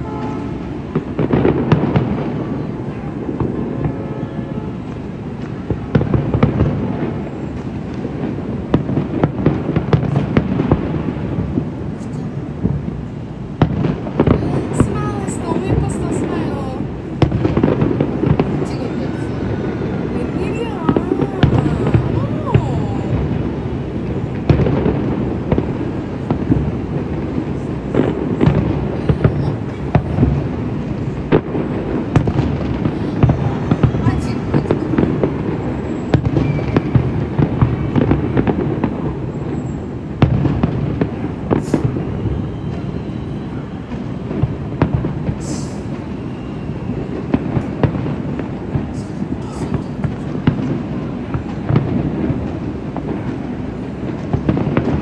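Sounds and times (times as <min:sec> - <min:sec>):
fireworks popping and banging: 0:00.0 - 0:55.0.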